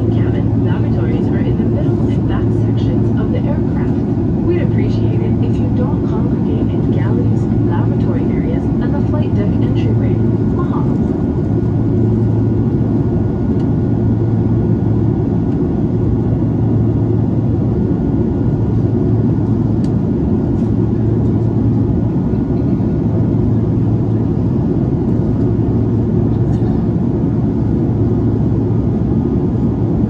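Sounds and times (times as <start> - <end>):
airplane cabin engine noise: 0.0 - 30.0.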